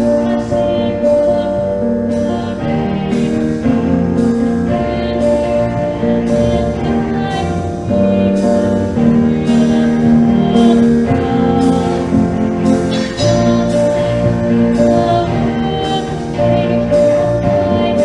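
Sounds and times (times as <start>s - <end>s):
worship music chords: 0.0s - 18.0s.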